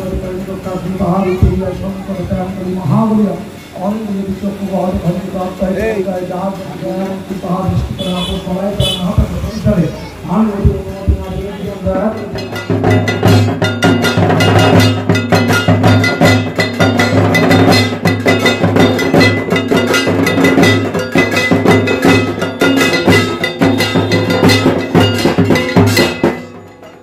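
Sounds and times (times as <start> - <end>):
drum beaten in fast rhythm: 0.0 - 27.0.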